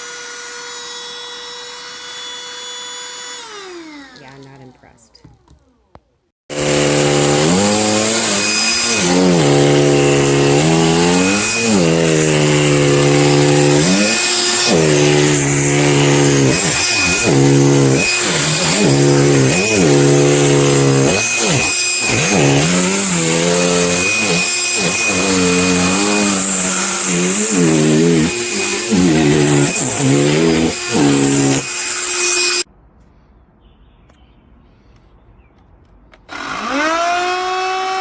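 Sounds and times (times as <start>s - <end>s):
handheld vacuum running: 0.0s - 4.8s, 6.5s - 32.7s, 36.3s - 38.0s.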